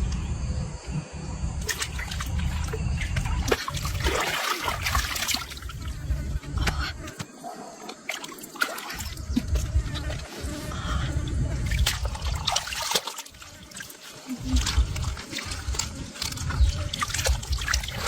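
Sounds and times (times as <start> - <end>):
water trickling and splashing: 1.6 - 18.0.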